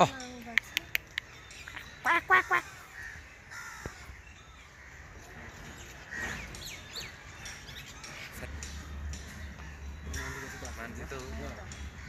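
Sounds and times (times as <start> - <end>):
birds calling: 0.0 - 12.0
low outdoor background noise: 0.0 - 12.0.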